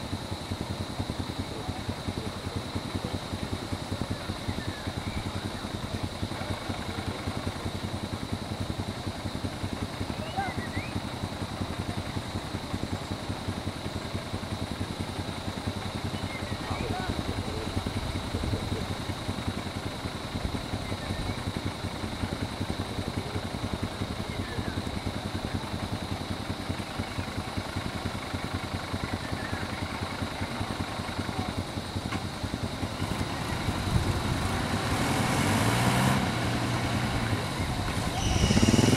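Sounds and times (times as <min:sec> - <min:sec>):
bus diesel engine idling: 0:00.0 - 0:38.9.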